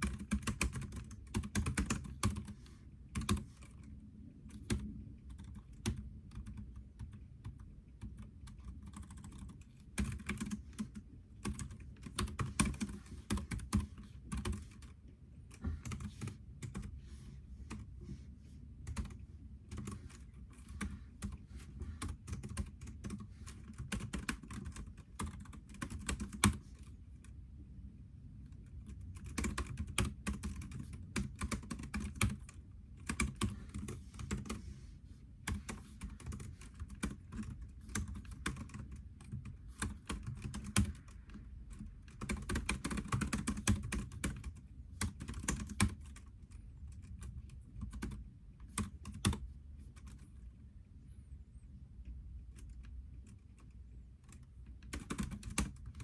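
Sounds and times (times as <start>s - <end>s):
typing on computer keyboard: 0.0s - 17.0s, 18.8s - 27.3s, 28.4s - 34.6s, 35.4s - 50.3s, 52.5s - 56.0s
faint low hum: 0.0s - 56.0s.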